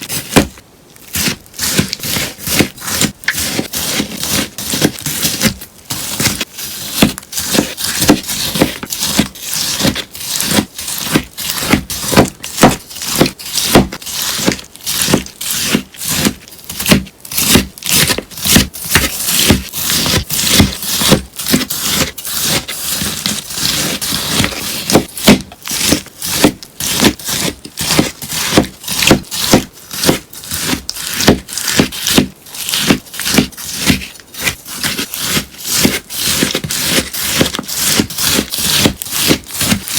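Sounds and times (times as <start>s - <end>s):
sponge being cut crunching: 0.0s - 39.9s.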